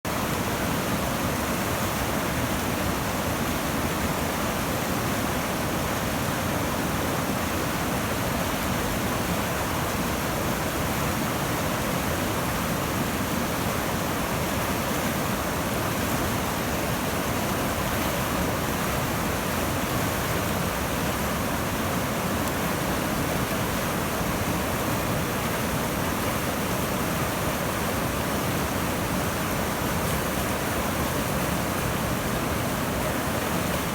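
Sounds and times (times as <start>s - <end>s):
river rapids rushing: 0.1s - 33.9s.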